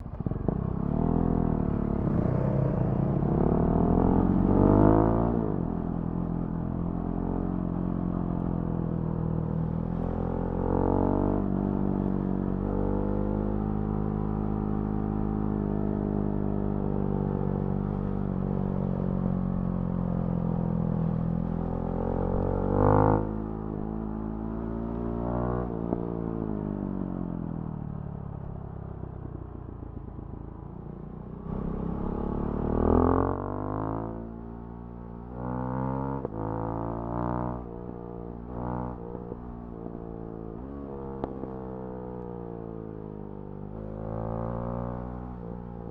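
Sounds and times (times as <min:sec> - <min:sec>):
motorcycle engine revving: 0:00.0 - 0:27.4, 0:31.4 - 0:45.9.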